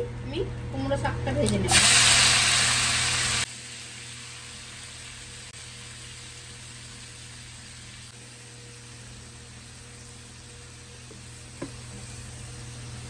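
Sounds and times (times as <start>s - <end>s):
leaves sizzling in hot oil: 1.7s - 13.0s.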